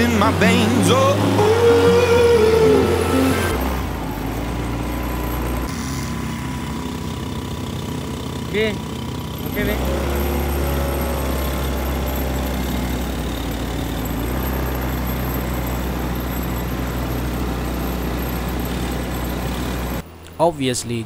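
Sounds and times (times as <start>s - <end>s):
atv engine running: 0.0s - 20.3s.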